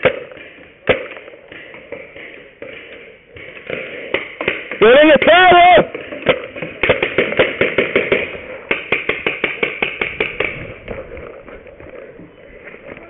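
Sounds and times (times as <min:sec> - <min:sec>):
paintball marker firing rapidly: 0:00.0 - 0:12.1.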